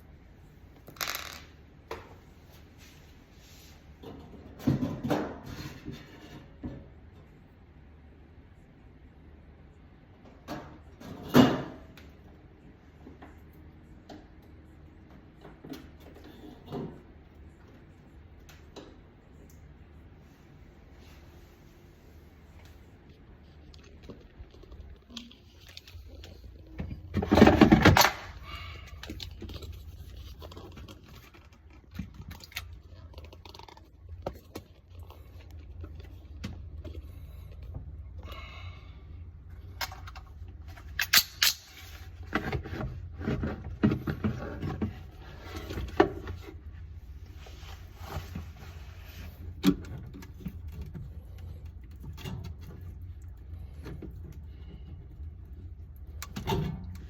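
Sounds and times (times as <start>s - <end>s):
steady low hum: 5.4s - 57.0s.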